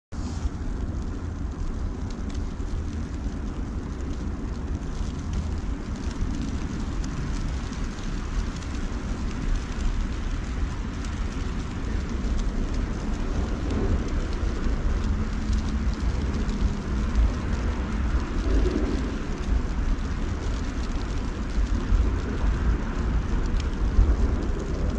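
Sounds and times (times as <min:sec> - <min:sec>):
low rumble: 0:00.1 - 0:24.9.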